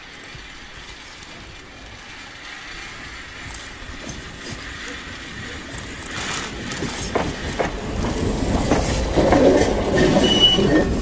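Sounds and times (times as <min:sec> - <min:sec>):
tram running along track: 0:00.0 - 0:11.0.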